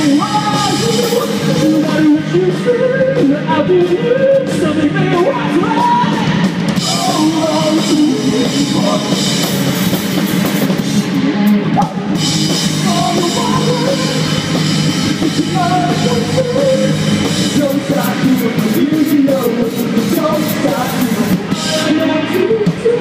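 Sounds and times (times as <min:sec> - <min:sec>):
drum kit: 0:00.0 - 0:23.0
electric guitars: 0:00.0 - 0:23.0.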